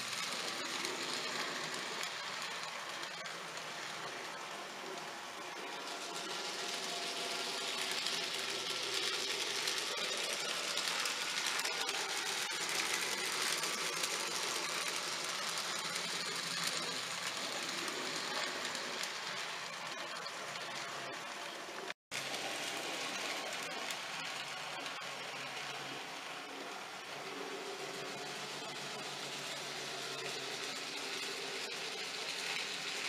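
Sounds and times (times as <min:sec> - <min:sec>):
model train motors whirring: 0:00.0 - 0:33.0.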